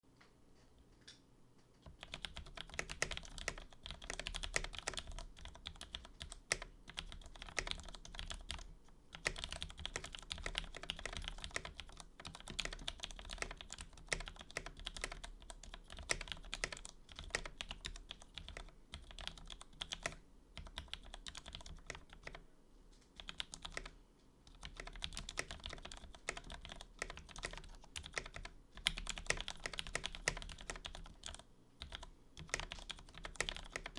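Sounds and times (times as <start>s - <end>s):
mechanical keyboard typing: 1.8s - 22.4s, 23.2s - 33.9s.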